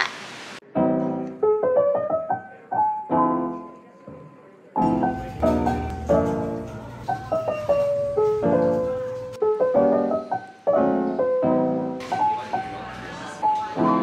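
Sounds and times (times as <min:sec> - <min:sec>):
piano chords: 0:00.6 - 0:14.0.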